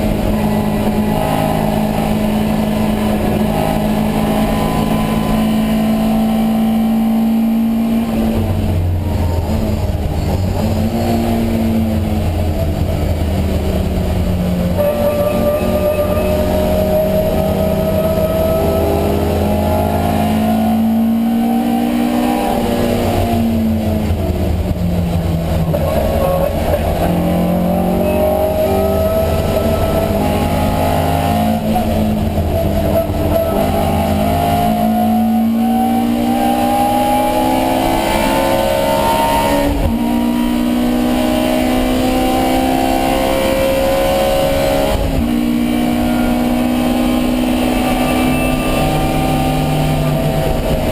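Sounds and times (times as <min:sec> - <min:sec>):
racing car engine revving: 0:00.0 - 0:50.9.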